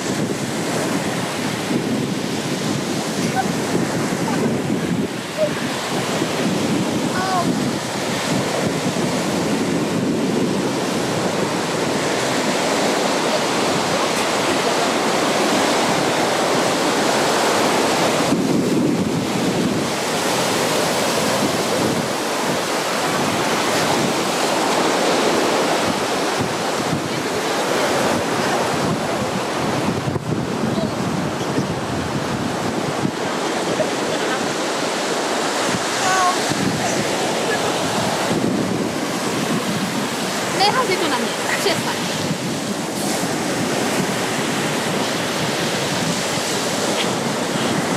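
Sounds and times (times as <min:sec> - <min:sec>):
sea surf breaking on beach: 0:00.0 - 0:47.9
wind buffeting microphone: 0:00.0 - 0:47.9.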